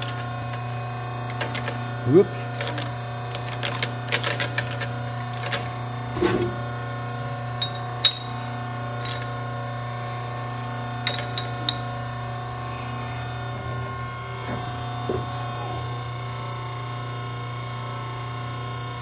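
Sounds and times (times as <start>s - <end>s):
steady electric hum: 0.0s - 19.0s.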